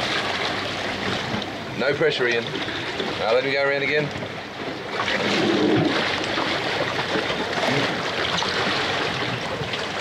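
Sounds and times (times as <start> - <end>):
water splashing along boat hull: 0.0 - 10.0.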